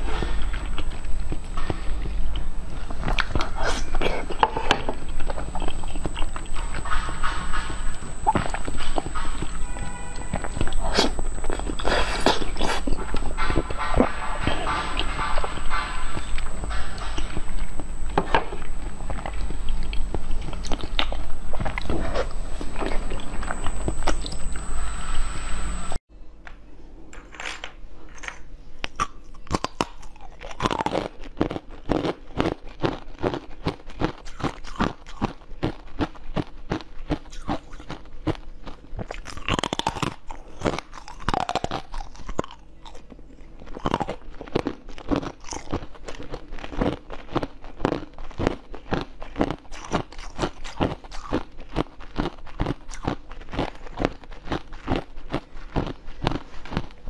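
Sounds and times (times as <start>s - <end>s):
crisp crunching bites: 0.2s - 24.7s, 28.9s - 57.0s.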